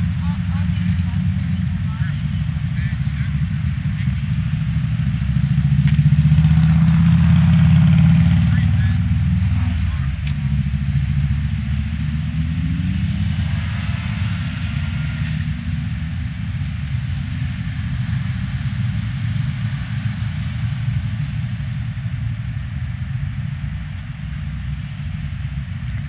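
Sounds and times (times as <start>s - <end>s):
road noise: 0.0s - 26.0s
vehicle engines rumbling: 0.0s - 26.0s.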